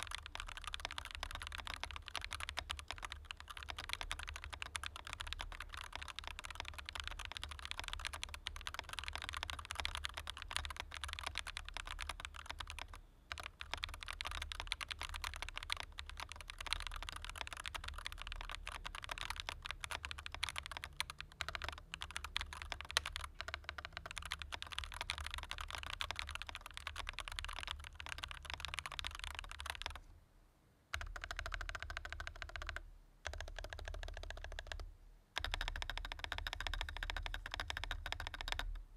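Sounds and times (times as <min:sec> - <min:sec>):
mechanical keyboard typing: 0:00.0 - 0:30.0, 0:30.9 - 0:34.8, 0:35.4 - 0:38.8.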